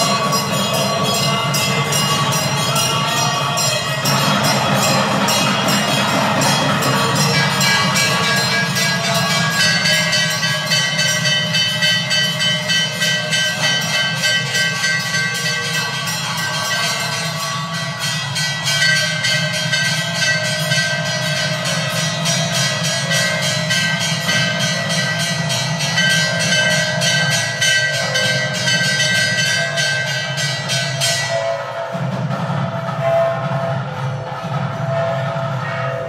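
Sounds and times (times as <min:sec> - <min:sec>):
bells ringing tones: 0:00.0 - 0:36.0
temple bells clanging rapidly: 0:00.0 - 0:36.0.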